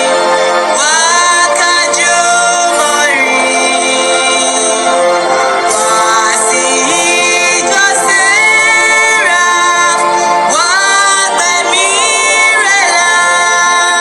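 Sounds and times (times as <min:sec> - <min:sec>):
person singing devotional song: 0:00.0 - 0:14.0.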